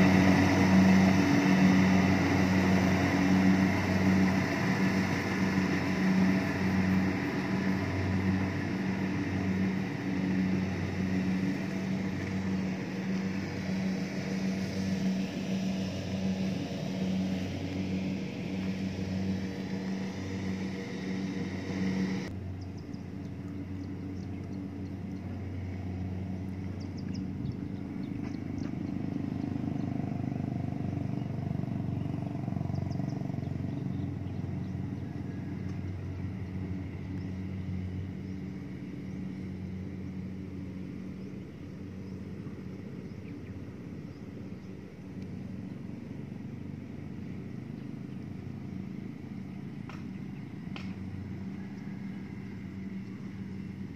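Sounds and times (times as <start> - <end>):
harvester engine droning: 0.0 - 53.9.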